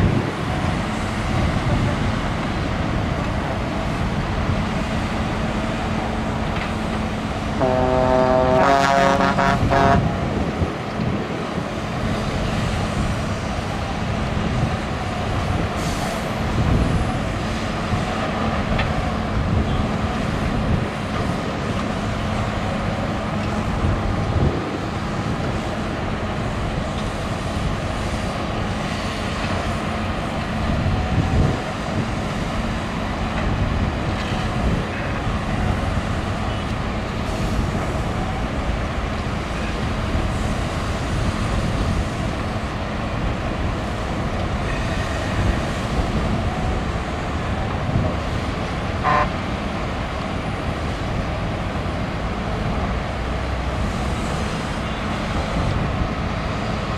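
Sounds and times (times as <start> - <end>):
heavy diesel engines running: 0.0 - 56.9.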